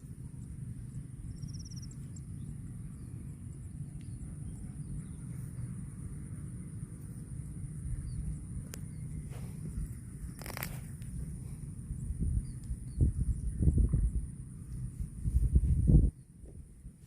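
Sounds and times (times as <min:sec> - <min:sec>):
high thin insect drone: 0:00.0 - 0:16.2.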